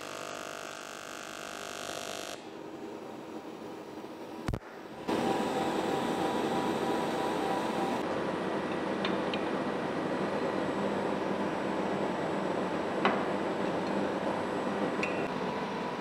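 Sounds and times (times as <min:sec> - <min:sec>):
welding equipment hum and hiss: 0:00.0 - 0:16.0.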